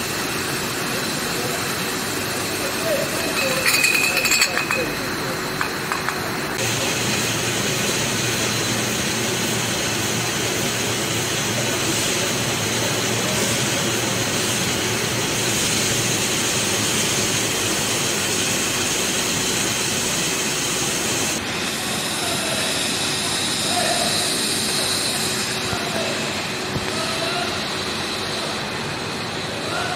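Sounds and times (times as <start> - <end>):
bottling line machinery running: 0.0 - 29.9.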